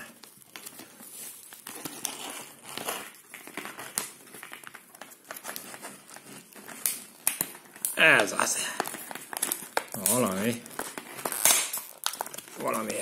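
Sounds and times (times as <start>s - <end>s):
plastic blister pack crinkling: 0.0s - 13.0s.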